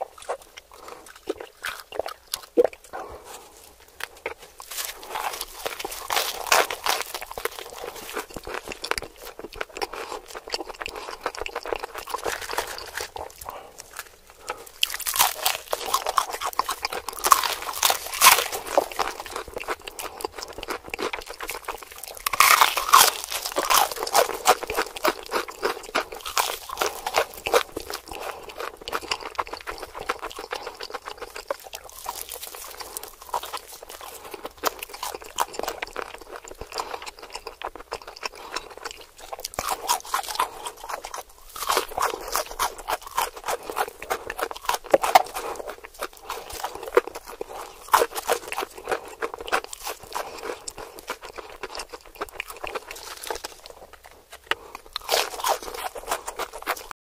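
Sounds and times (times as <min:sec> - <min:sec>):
crispy chicken crunching: 0:00.0 - 0:56.9
person chewing: 0:00.0 - 0:57.0.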